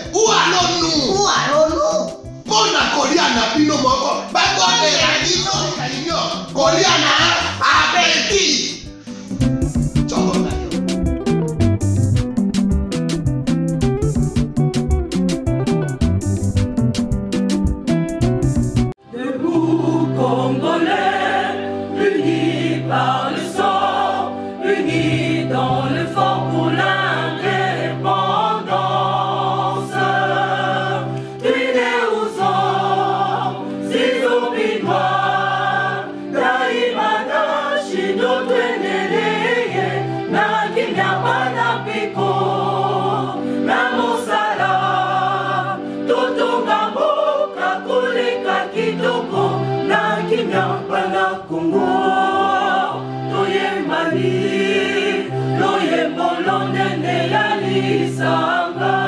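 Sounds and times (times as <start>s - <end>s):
choir singing: 0.0s - 8.8s, 19.0s - 59.0s.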